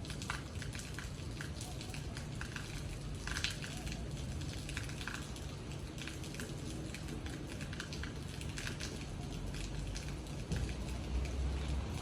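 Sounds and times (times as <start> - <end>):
raindrops tapping on hard surface: 0.0 - 12.0.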